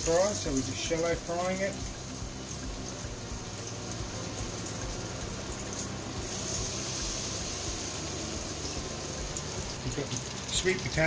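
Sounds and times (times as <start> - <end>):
battered fish sizzling in oil: 0.0 - 11.0.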